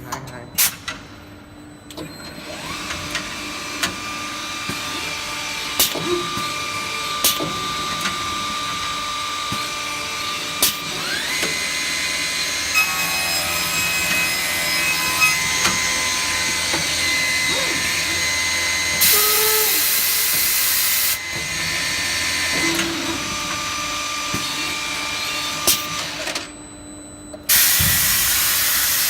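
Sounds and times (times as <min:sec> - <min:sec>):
drilling machine spindle whine: 0:01.9 - 0:29.0.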